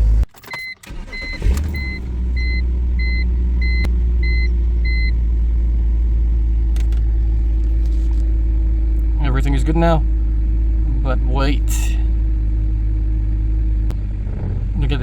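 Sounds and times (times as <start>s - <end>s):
car engine idling: 0.9s - 15.0s.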